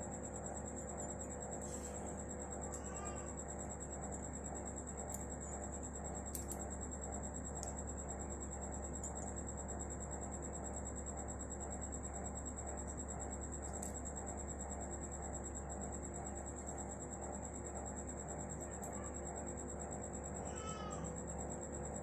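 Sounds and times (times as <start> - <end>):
quiet steady hum: 0.0 - 22.0.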